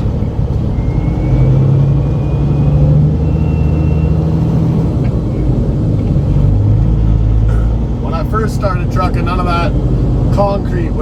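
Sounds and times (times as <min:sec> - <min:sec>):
truck diesel engine pulling: 0:00.0 - 0:11.0.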